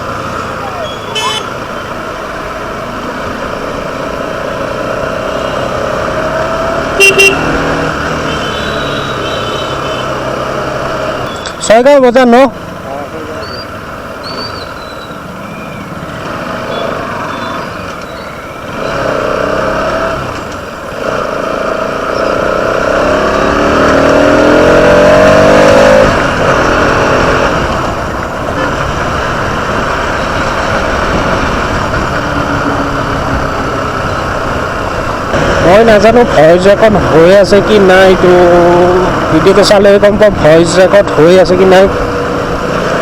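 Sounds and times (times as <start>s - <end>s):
motorcycle engine revving: 0.0s - 11.5s, 12.6s - 43.0s
wind and road noise: 0.0s - 43.0s.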